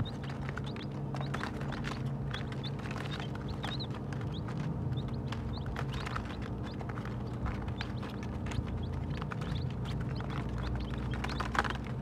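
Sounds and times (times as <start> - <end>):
baby chicks peeping: 0.0 - 12.0
beaks pecking on paper: 0.0 - 12.0
steady low hum: 0.0 - 12.0.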